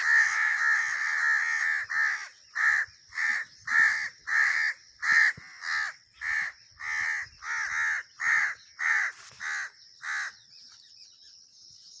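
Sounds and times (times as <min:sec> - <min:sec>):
crow cawing: 0:00.0 - 0:10.4.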